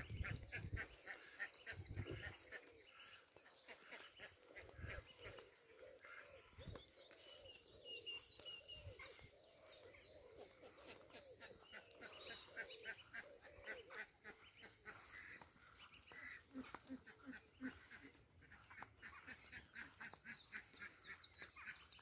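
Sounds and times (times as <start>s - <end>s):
ducks and geese calling: 0.0s - 22.0s
small birds singing: 0.0s - 22.0s.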